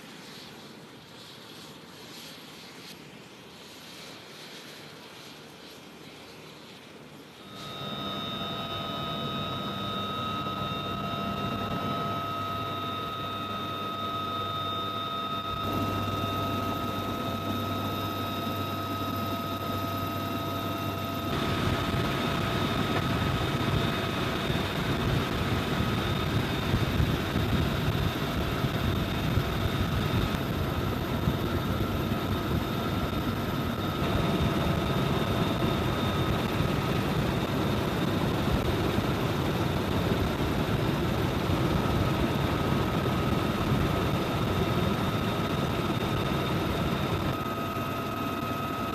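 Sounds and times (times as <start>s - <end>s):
helicopter rotor noise: 0.0s - 48.9s
high turbine whine: 0.0s - 48.9s.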